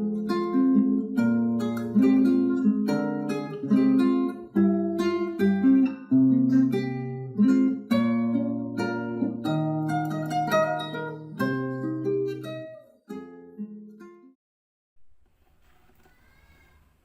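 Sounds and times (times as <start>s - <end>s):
acoustic guitar: 0.0s - 14.4s.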